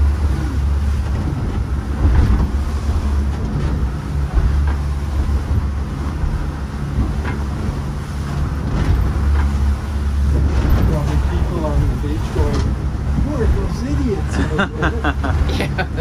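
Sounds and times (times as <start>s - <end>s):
boat engine droning: 0.0s - 16.0s
wind and water rushing: 0.0s - 16.0s.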